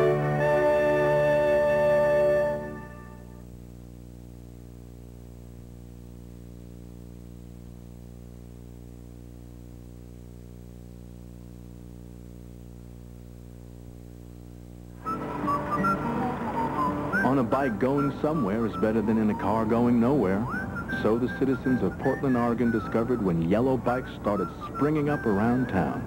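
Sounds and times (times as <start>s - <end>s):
faint tape hiss: 0.0s - 26.0s
low electrical mains hum: 0.0s - 26.0s.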